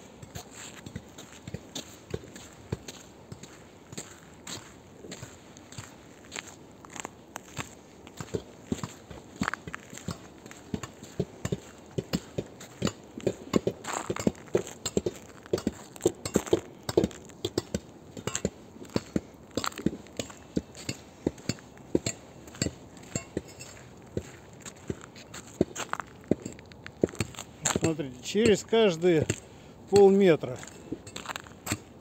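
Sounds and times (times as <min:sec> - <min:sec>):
footsteps crunching in snow: 0:00.0 - 0:32.0.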